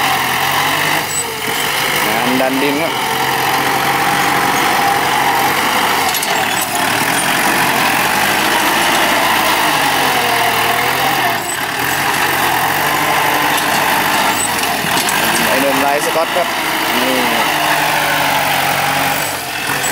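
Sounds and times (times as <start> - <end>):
tractor diesel engine under load: 0.0 - 19.9.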